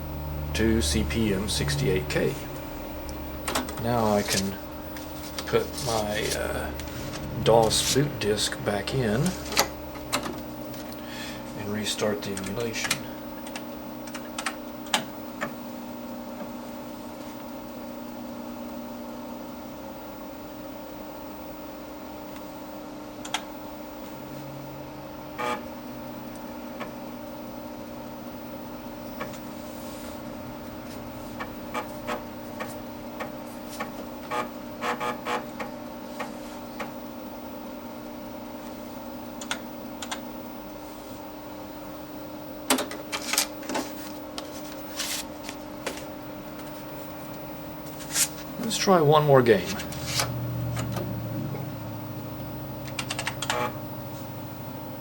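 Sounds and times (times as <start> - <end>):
computer humming: 0.0 - 16.6, 21.2 - 55.0.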